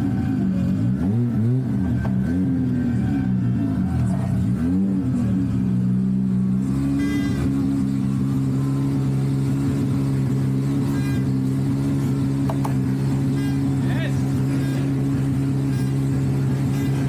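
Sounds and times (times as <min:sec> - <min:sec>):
car engine: 0:00.0 - 0:17.0.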